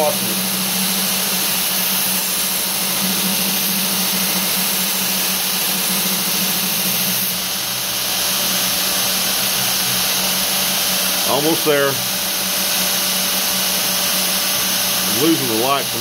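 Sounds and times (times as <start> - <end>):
belt grinder grinding blade: 0.0 - 16.0
motor hum: 0.0 - 16.0.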